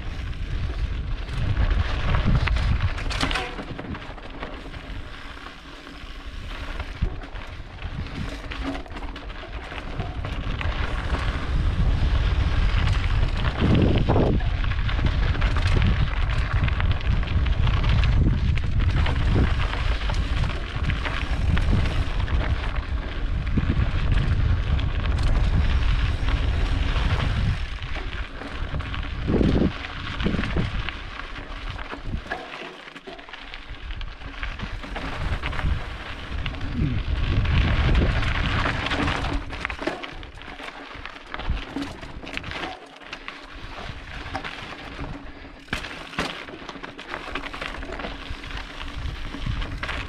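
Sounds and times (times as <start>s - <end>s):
wind rumble on microphone: 0.0s - 32.5s, 33.6s - 45.8s, 47.1s - 50.0s
bike knocks and rattles: 0.0s - 50.0s
tyres crunching on gravel: 0.0s - 50.0s.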